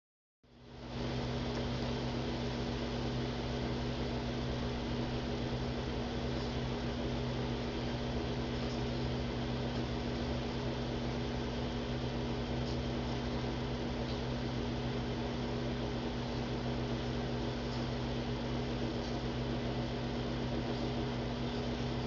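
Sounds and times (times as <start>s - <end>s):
electrical hum: 0.4s - 22.0s.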